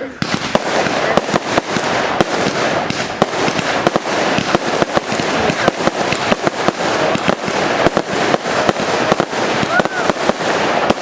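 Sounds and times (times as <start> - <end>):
fireworks bangs and cracks: 0.0 - 11.0
fireworks crackling hiss: 0.0 - 11.0.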